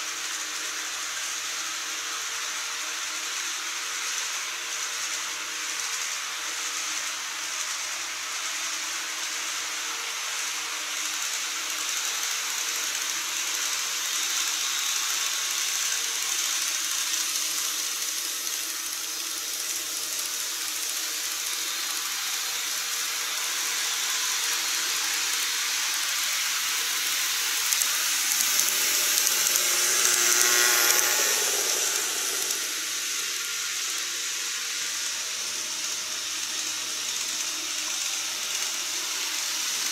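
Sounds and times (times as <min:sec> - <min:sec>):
model trains rolling hiss: 0:00.0 - 0:39.9
fine ticking of train wheels: 0:06.7 - 0:39.9.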